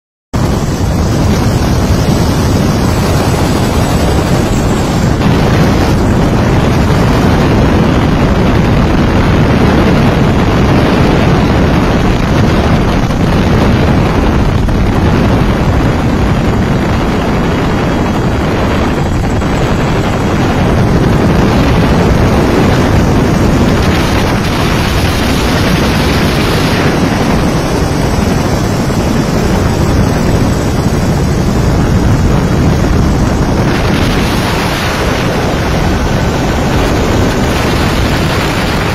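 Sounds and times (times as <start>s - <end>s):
aircraft rushing noise in flight: 0.3s - 38.9s.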